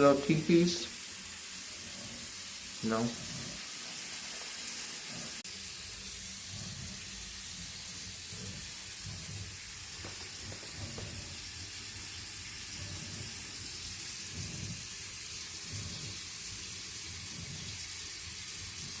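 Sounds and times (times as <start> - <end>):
faucet water streaming into sink: 0.0 - 19.0.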